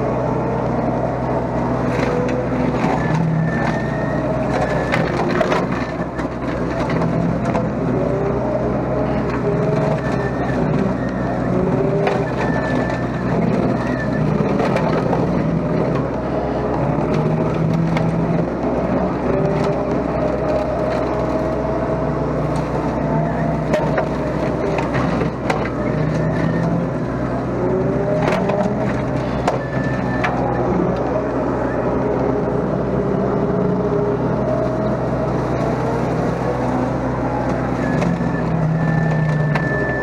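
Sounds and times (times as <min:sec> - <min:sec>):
excavator engine running: 0:00.0 - 0:40.0
wavering whine: 0:00.0 - 0:40.0.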